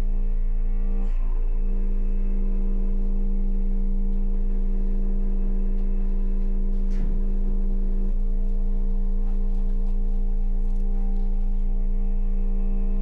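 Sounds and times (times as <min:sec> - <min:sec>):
low ambient drone: 0:00.0 - 0:13.0.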